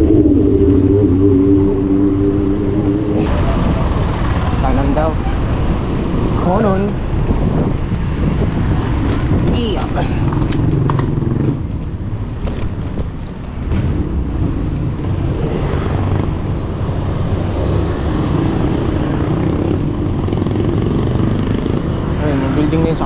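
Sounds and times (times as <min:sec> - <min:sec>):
motor vehicle engines rumbling: 0:00.0 - 0:23.0.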